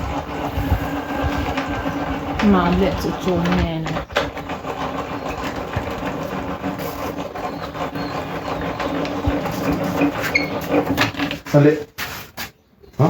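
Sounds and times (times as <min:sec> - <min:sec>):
small motor humming: 0:00.0 - 0:11.0.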